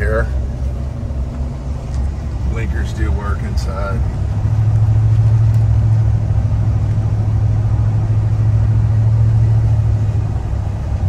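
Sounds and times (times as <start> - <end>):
in-cab engine drone: 0.0 - 11.0
road noise: 0.0 - 11.0.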